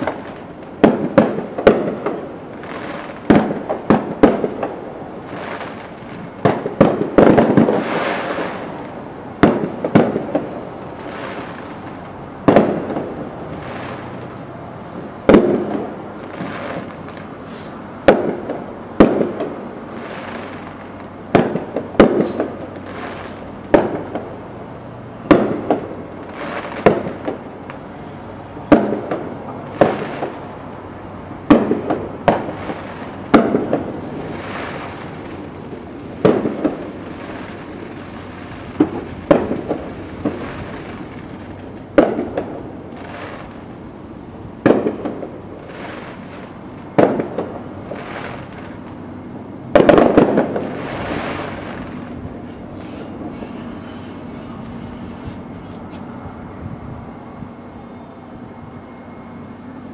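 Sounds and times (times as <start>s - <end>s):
distant fireworks bursting: 0.0s - 59.9s.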